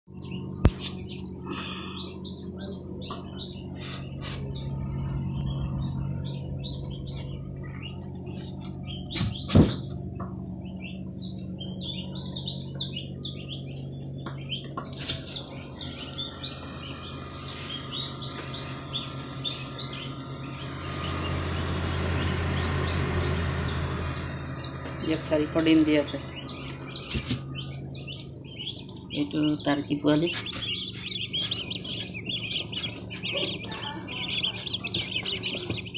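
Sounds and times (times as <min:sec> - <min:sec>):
low machine hum: 0:00.1 - 0:35.9
small birds chirping: 0:00.1 - 0:35.9.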